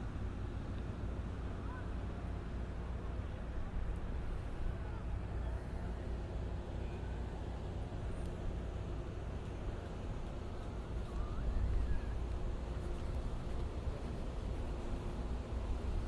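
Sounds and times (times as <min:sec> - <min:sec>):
low outdoor rumble: 0:00.0 - 0:16.0
faint distant voices: 0:01.1 - 0:16.0.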